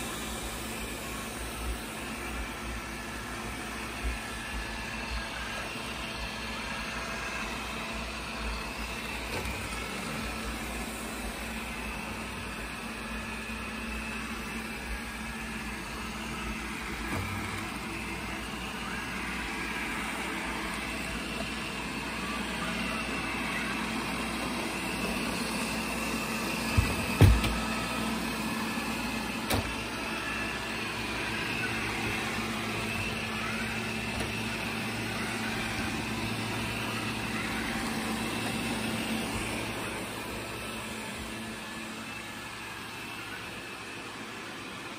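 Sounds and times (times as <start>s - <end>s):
robot vacuum motor hum: 0.0s - 44.9s.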